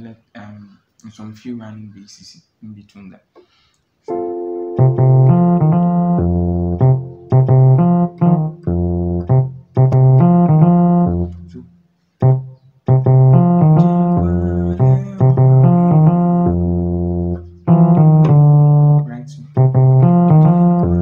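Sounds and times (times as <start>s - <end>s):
electronic keyboard piano chords: 4.1s - 21.0s.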